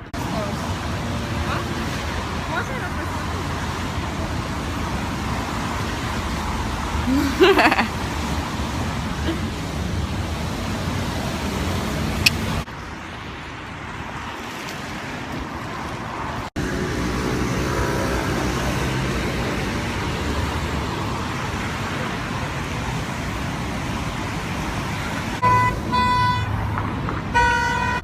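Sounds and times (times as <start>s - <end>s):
passing road traffic rumble: 0.0s - 28.0s.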